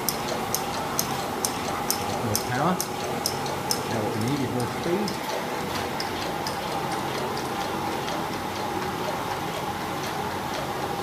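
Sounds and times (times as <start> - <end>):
engine mechanism clicking: 0.0 - 10.7.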